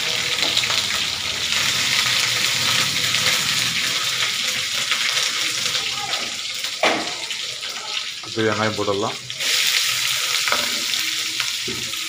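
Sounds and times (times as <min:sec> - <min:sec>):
chillies sizzling in oil: 0:00.0 - 0:12.0.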